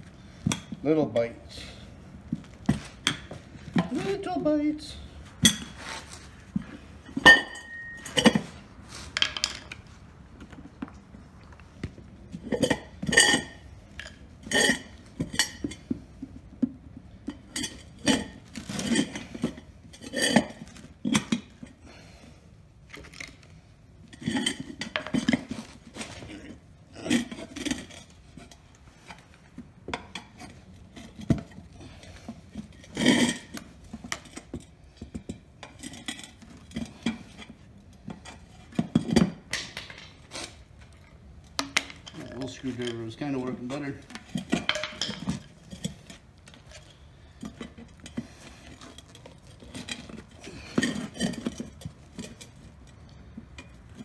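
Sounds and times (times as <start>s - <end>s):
tire iron clinking on metal rim: 5.4s - 10.0s, 12.3s - 22.1s, 23.6s - 54.0s.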